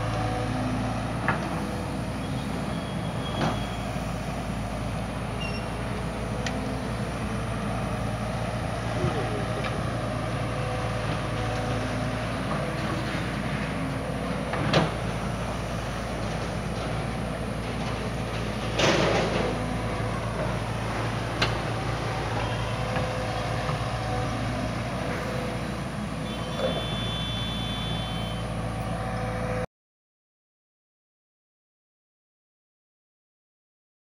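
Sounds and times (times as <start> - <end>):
excavator diesel engine running: 0.0 - 29.7.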